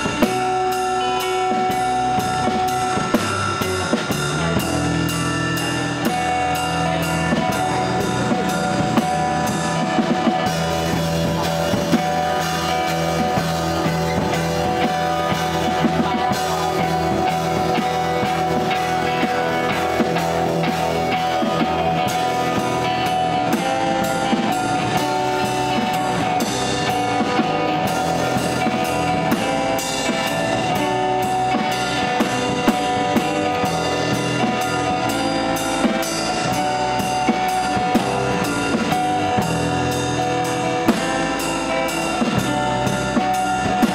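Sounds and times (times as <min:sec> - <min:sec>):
acoustic guitars: 0:00.0 - 0:43.9
drum kit played with sticks: 0:00.0 - 0:43.9.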